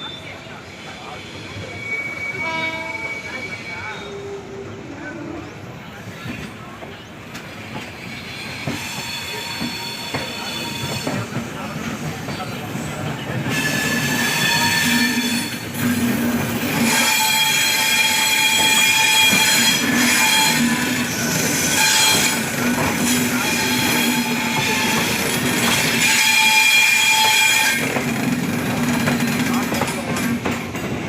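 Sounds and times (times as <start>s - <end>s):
rumble of rolling coaches: 0.0s - 31.0s
train brakes screeching: 0.0s - 31.0s.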